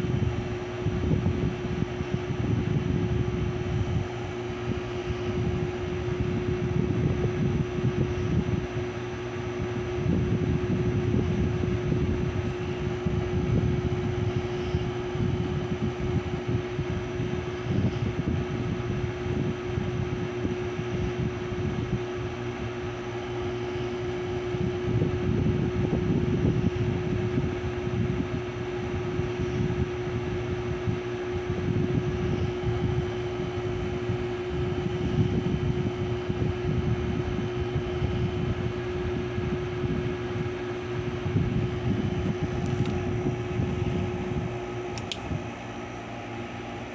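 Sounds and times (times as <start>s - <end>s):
ceiling fan humming: 0.0s - 46.9s
low rumble of moving air: 0.0s - 46.9s.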